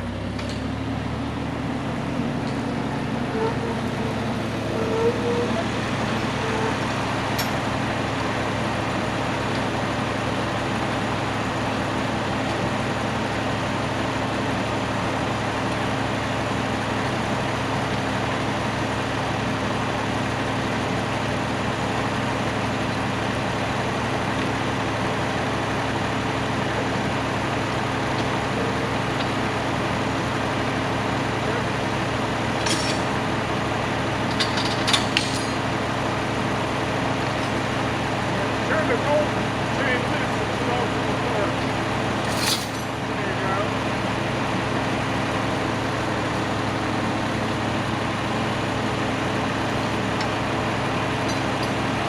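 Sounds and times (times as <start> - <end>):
tractor engine running steadily: 0.0 - 52.0.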